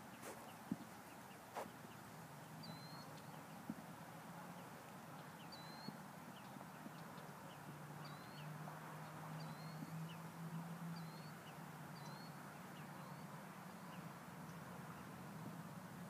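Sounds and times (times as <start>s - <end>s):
bird chirping: 0.0s - 3.6s, 4.6s - 10.3s, 11.0s - 14.6s.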